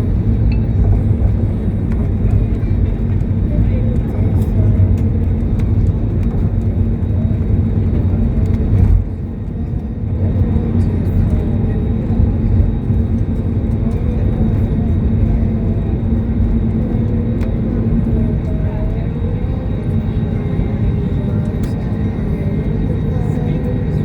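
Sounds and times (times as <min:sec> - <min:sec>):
constant hum: 0:00.0 - 0:24.0
jet airliner engines rumbling: 0:00.0 - 0:24.0.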